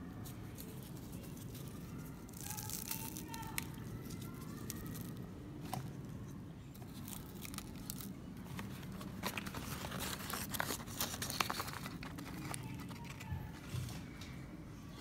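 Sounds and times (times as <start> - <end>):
pastry crust crackling: 0.0 - 13.7
foil and cardboard crinkling: 0.5 - 5.8, 6.8 - 13.6.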